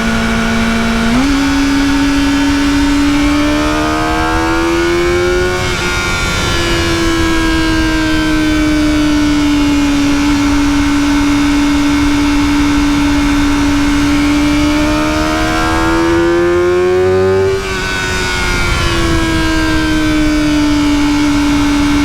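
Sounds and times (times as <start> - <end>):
motorcycle engine revving high: 0.0 - 22.0
wind rush: 0.0 - 22.0.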